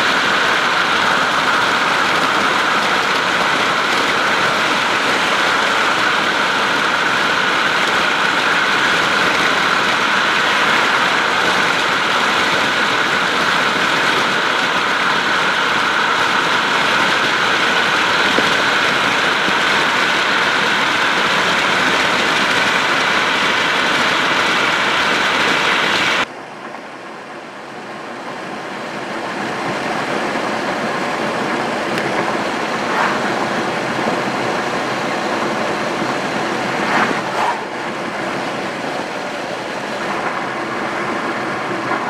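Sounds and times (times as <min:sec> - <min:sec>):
car driving on highway: 0:00.0 - 0:42.0
engine and fan hum: 0:00.0 - 0:42.0.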